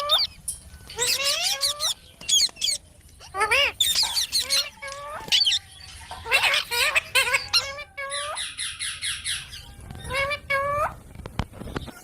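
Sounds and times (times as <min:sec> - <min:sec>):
parrots squawking and chattering: 0:00.0 - 0:12.0.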